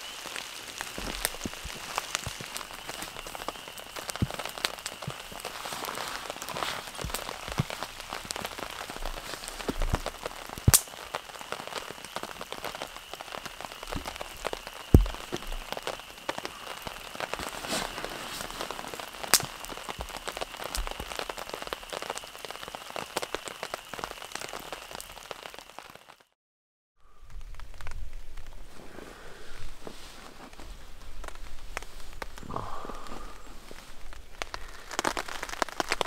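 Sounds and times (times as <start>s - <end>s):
heavy rain on tarp: 0.0s - 26.4s, 27.2s - 36.0s.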